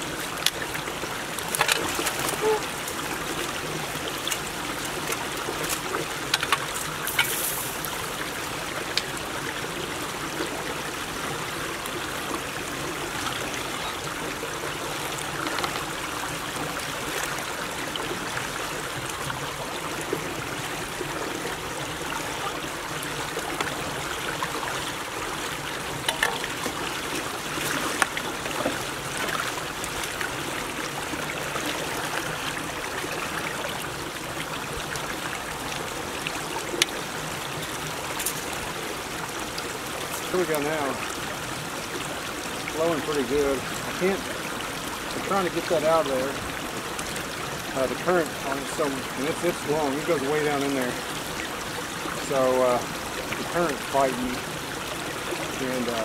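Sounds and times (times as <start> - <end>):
water rushing through ditch: 0.0 - 56.0.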